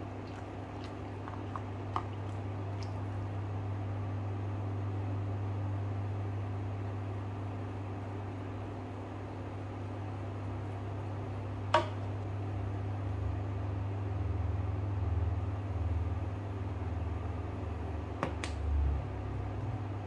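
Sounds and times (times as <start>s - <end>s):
electric cooktop humming: 0.0s - 20.0s.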